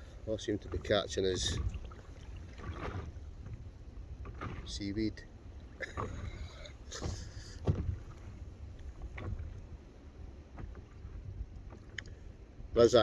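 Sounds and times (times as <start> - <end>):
sea water splashing in shallows: 0.0 - 13.0.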